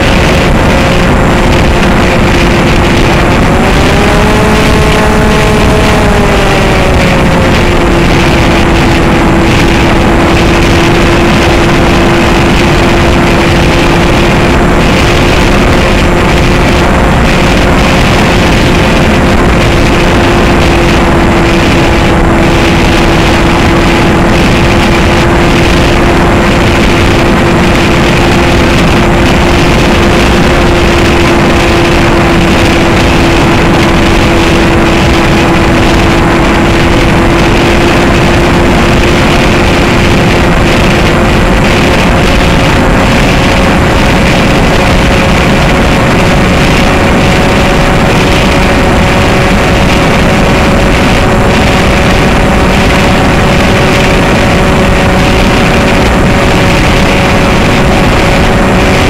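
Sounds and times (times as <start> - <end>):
model plane motor droning: 0.0 - 59.0
wind rushing over microphone: 0.0 - 59.0.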